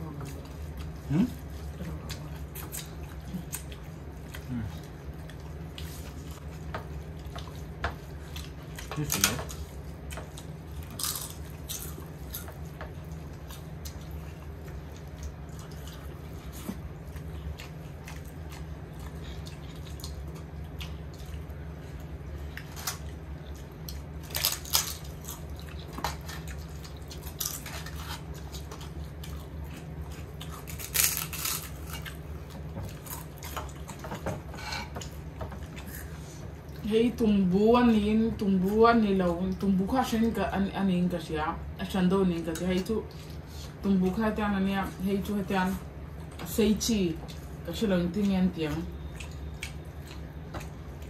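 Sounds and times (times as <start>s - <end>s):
people chewing and crunching: 0.0s - 36.9s, 42.4s - 43.9s, 48.2s - 51.0s
steady low hum: 0.0s - 51.0s.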